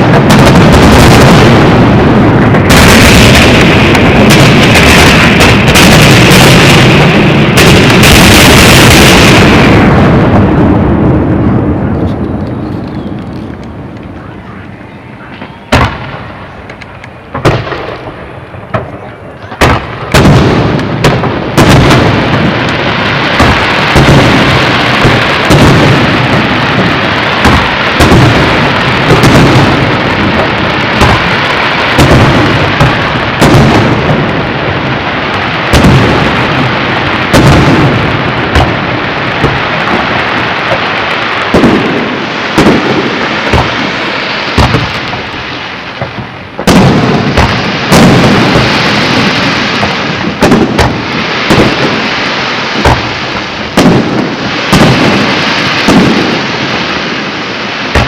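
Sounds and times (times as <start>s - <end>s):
fireworks booming and bursting: 0.0s - 58.0s
fireworks crackle: 0.0s - 58.0s.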